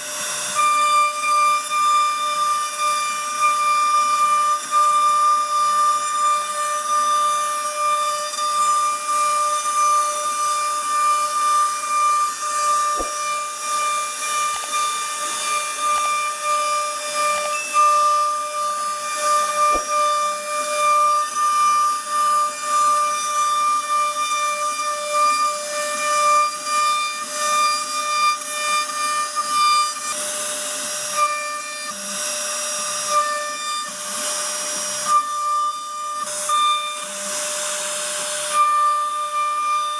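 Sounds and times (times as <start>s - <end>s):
hiss of cutting wood: 0.0s - 23.2s, 29.9s - 39.6s
router spindle whining: 0.0s - 39.9s.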